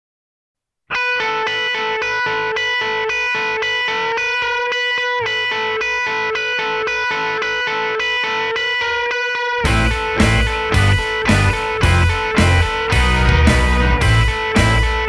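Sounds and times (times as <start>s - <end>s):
electric guitar chord strumming: 0.9s - 15.0s.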